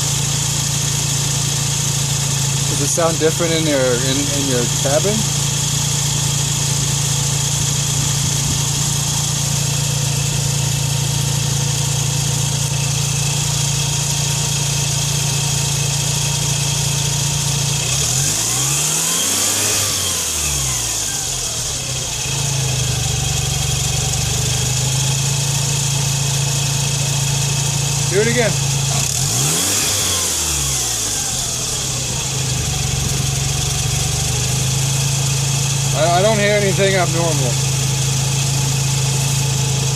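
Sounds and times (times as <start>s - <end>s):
rotary engine idling and revving: 0.0s - 39.9s.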